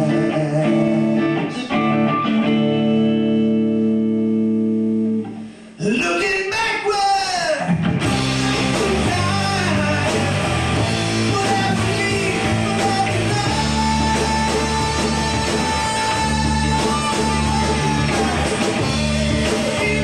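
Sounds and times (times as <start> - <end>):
live rock band playing: 0.0 - 5.7, 7.6 - 20.0.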